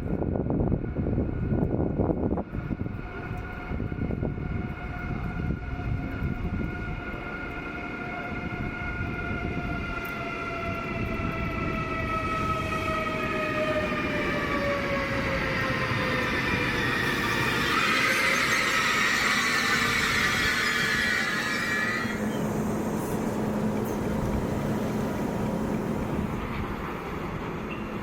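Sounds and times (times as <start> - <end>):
train rumble: 0.0 - 28.0
electric train whine: 0.1 - 28.0.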